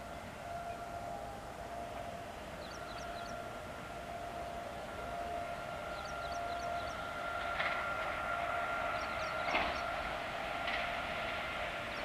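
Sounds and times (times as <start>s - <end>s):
distant locomotive horn: 0.0s - 12.0s.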